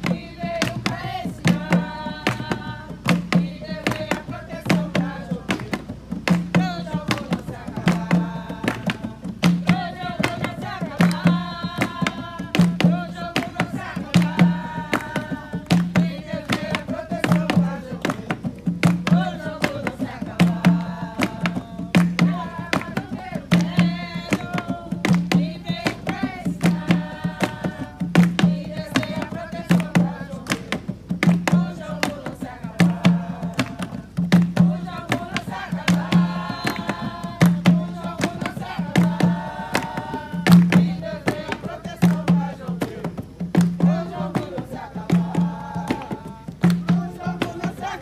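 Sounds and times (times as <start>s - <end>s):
hand drums beating: 0.0s - 48.0s
voices singing: 0.0s - 48.0s.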